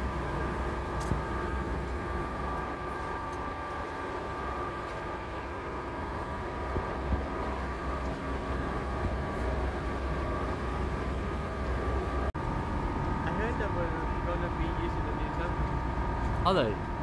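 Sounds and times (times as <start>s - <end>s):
constant whine: 0.0s - 17.0s.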